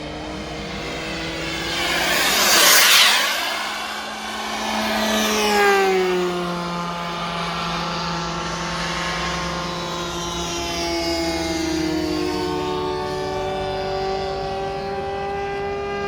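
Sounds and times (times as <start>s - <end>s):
model jet turbine whining: 0.0s - 14.8s.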